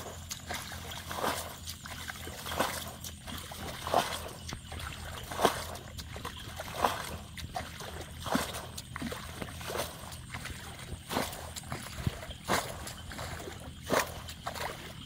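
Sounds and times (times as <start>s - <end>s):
water splashing from bucket: 0.0s - 15.0s.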